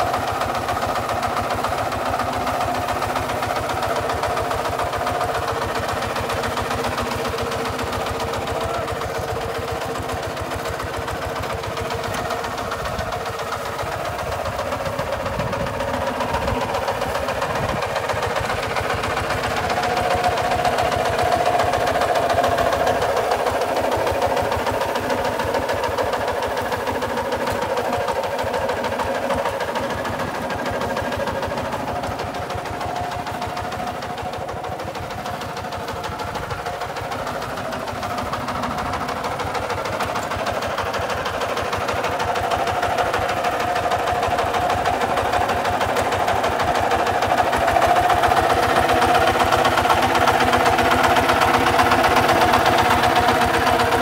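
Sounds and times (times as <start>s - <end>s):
diesel tractor engine knocking: 0.0s - 54.0s.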